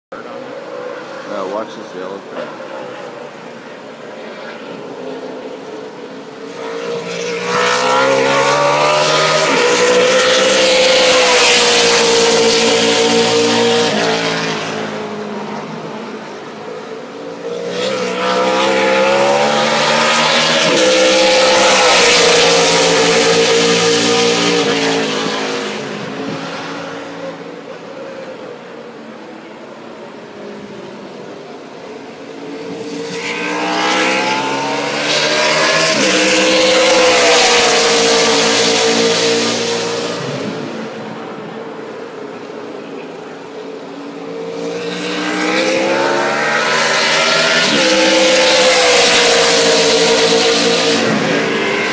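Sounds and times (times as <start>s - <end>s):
race truck engines passing: 0.1s - 51.9s.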